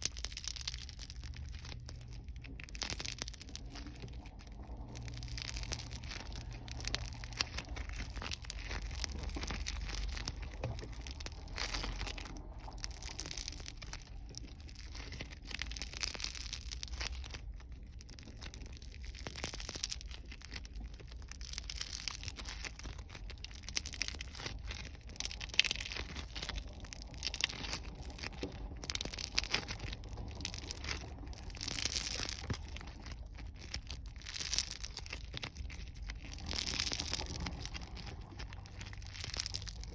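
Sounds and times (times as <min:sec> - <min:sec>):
foam crackling and popping: 0:00.0 - 0:39.9.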